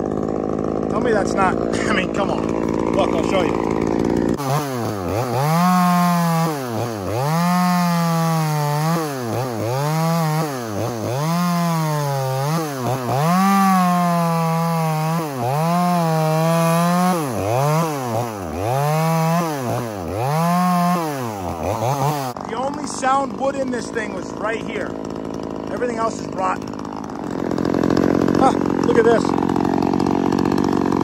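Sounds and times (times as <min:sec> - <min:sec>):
chainsaw cutting stump: 0:00.0 - 0:31.0.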